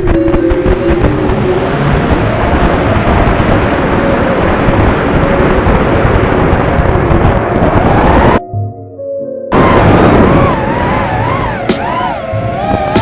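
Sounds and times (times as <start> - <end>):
drone motors whining: 0.0 - 8.4, 9.5 - 13.0
wind buffeting microphone: 0.0 - 8.4, 9.5 - 13.0.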